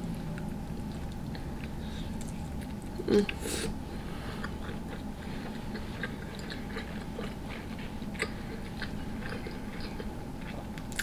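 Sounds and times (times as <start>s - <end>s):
close-up chewing: 0.0s - 3.4s, 4.0s - 11.0s.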